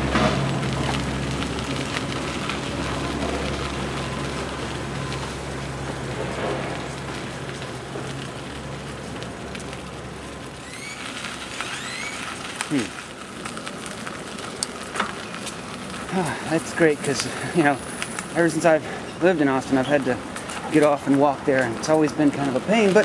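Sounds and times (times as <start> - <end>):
bicycle tyre noise: 0.0 - 23.0
road traffic engine hum: 0.0 - 23.0.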